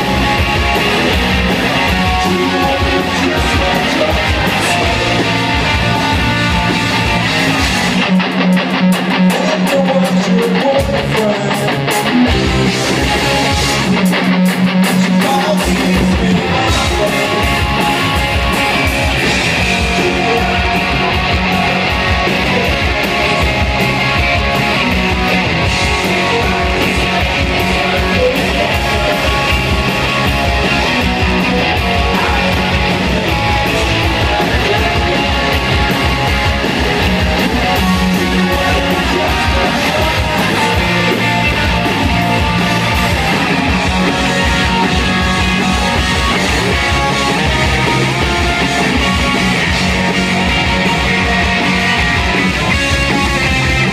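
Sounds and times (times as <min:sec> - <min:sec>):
bass guitar: 0:00.0 - 0:53.9
distorted electric guitars: 0:00.0 - 0:53.9
drum kit: 0:00.0 - 0:53.9.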